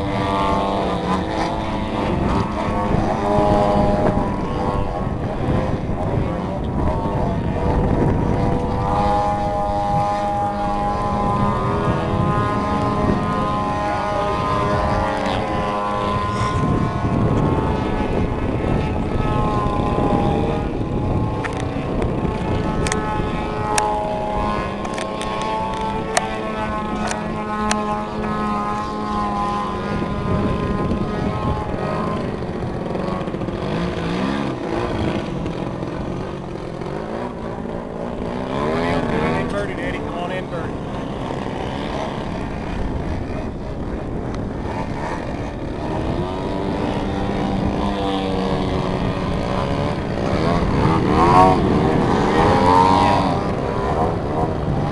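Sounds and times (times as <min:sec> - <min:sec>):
model plane propeller drone: 0:00.0 - 0:54.9
wind rumble on microphone: 0:00.0 - 0:54.9.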